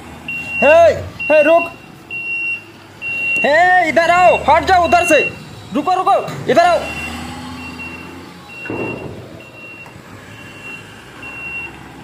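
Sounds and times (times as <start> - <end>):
reversing alarm beeping: 0.3 - 11.8.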